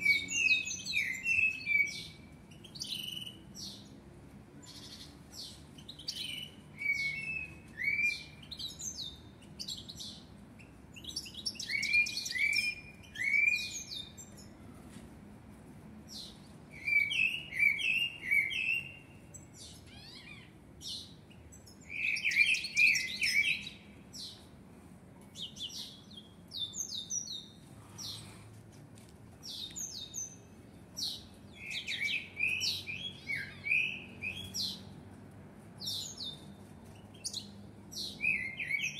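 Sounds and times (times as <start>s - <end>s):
blackbird singing: 0.0s - 4.0s, 4.6s - 14.6s, 16.1s - 24.5s, 25.4s - 28.3s, 29.4s - 35.0s, 35.8s - 38.9s.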